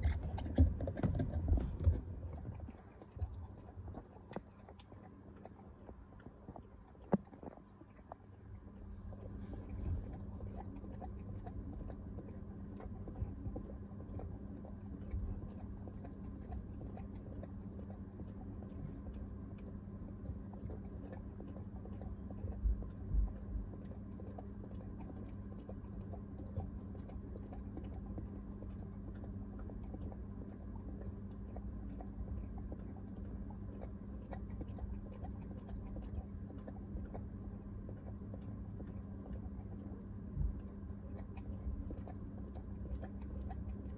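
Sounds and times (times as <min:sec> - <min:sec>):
dog licking and chewing: 0:00.0 - 0:43.9
steady low hum: 0:00.0 - 0:43.9.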